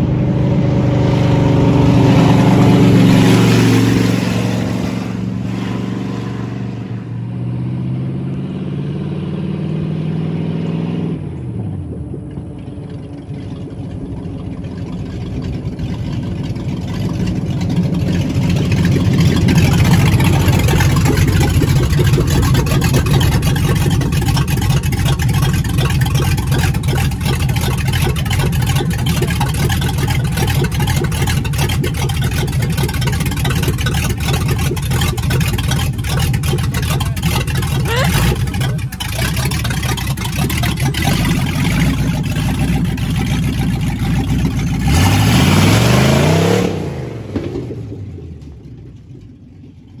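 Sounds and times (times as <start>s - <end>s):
engine revving: 0.0s - 48.6s
driving noise: 0.0s - 50.0s
truck engine running: 0.0s - 50.0s.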